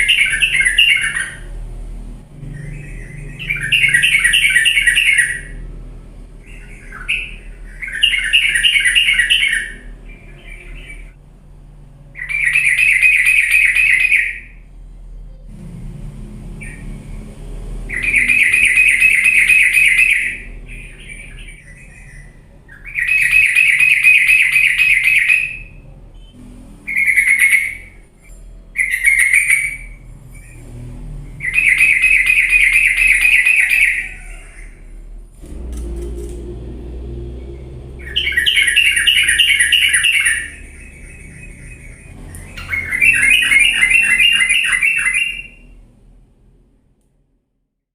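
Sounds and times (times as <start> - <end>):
bulbul chattering song: 0.0 - 1.6, 2.3 - 14.6, 16.5 - 34.8, 37.4 - 45.9.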